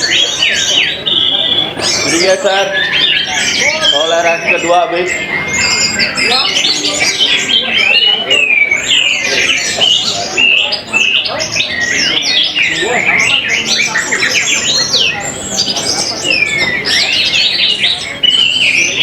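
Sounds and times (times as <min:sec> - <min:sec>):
murmur of voices: 0:00.0 - 0:19.0
thrushes singing: 0:00.0 - 0:19.0.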